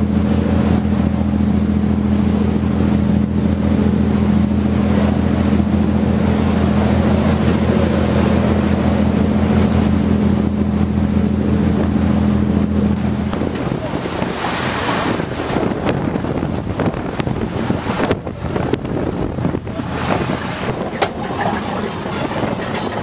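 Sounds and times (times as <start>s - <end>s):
motorboat engine humming: 0.0s - 23.0s
rushing water and air: 0.0s - 23.0s.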